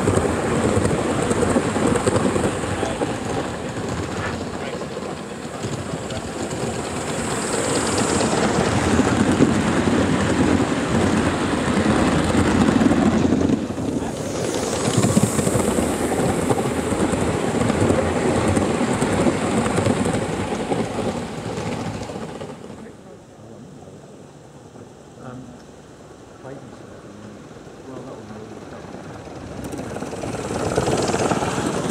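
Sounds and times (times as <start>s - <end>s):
model train wheels rumbling on rail: 0.0s - 24.8s, 26.3s - 31.9s.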